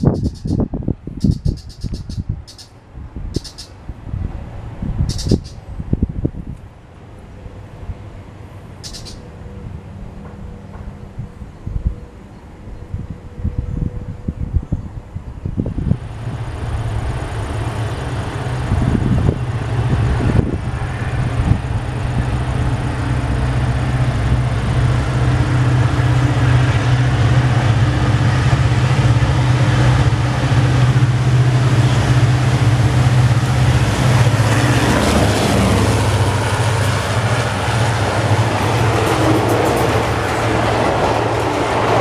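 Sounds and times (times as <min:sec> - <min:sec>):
diesel locomotive engine droning: 0:00.0 - 0:42.0.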